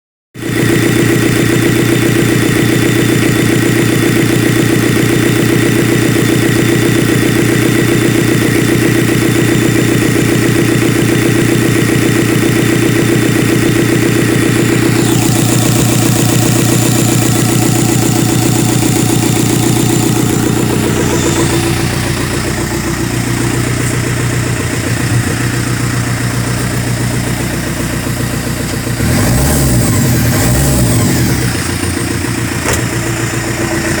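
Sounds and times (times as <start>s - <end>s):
diesel engine idling: 0.4s - 34.0s.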